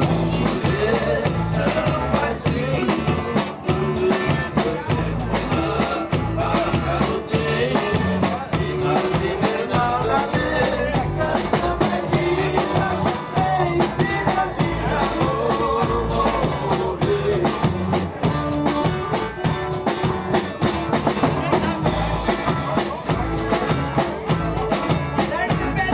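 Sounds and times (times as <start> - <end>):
accordion melody: 0.0 - 25.9
bass: 0.0 - 25.9
drum kit dance beat: 0.0 - 25.9.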